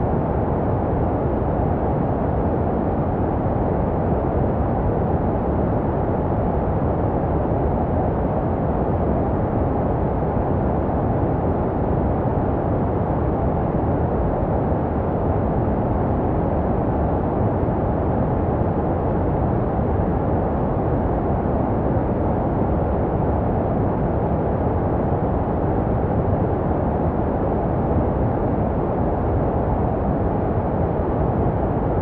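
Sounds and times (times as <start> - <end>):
white noise: 0.0 - 32.0.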